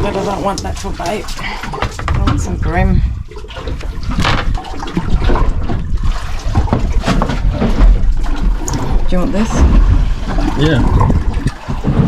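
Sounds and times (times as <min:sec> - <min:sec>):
water lapping against boat hull: 0:00.0 - 0:12.0
wind rumbling on microphone: 0:00.0 - 0:12.0.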